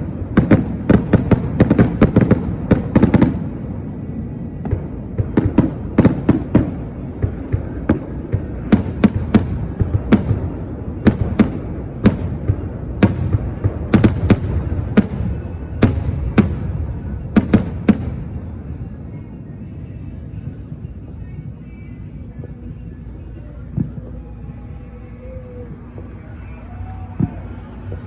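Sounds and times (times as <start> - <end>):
fireworks bangs and pops: 0.0 - 19.1, 21.1 - 24.7
continuous low rumble: 0.0 - 28.0.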